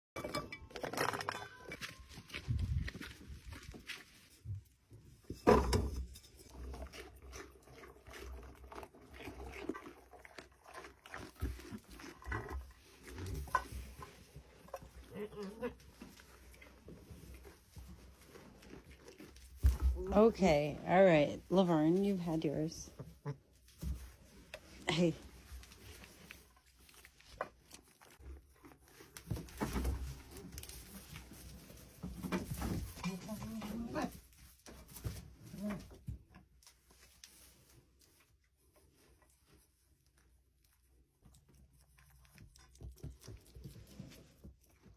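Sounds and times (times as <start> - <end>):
goats crunching broccoli: 0.7 - 5.3, 6.1 - 20.9, 21.9 - 44.9.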